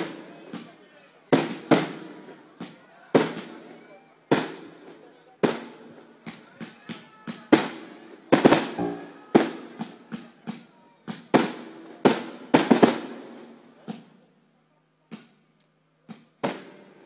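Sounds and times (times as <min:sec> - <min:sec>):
fireworks bursting with loud bangs: 0:00.0 - 0:14.2, 0:16.1 - 0:17.0.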